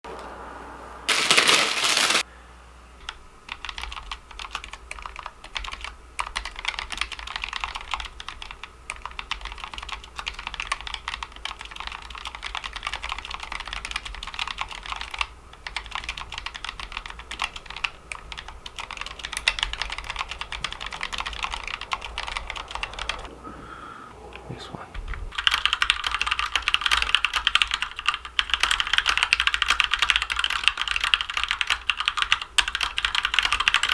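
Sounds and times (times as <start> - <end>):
fast typing on mechanical keyboard: 1.1 - 2.2, 3.0 - 23.3, 25.3 - 33.9.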